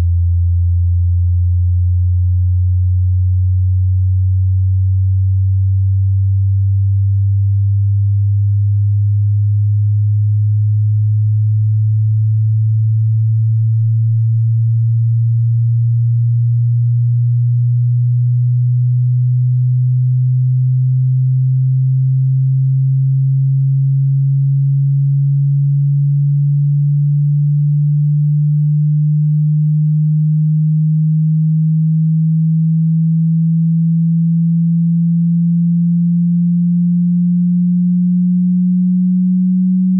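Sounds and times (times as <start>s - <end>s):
low sine-wave tone rising in pitch: 0.0s - 39.9s.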